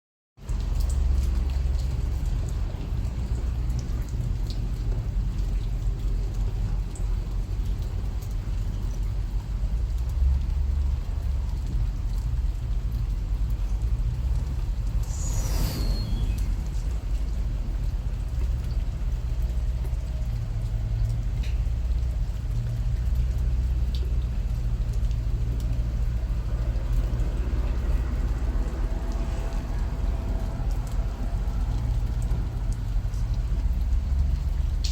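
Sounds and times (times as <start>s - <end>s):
raindrops ticking: 0.4s - 34.9s
steady rain falling: 0.4s - 34.9s.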